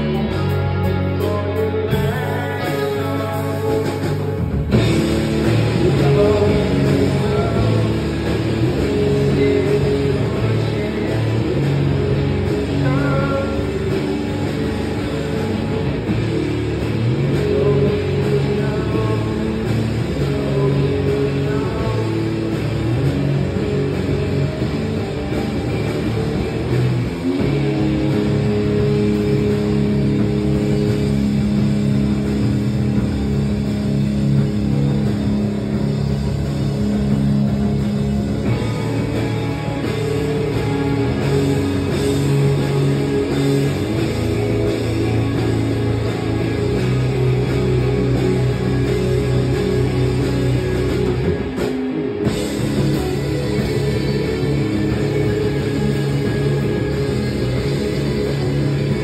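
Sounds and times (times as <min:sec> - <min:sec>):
distorted electric guitars: 0:00.0 - 0:59.0
drum kit: 0:00.0 - 0:59.0
electric bass: 0:00.0 - 0:59.0.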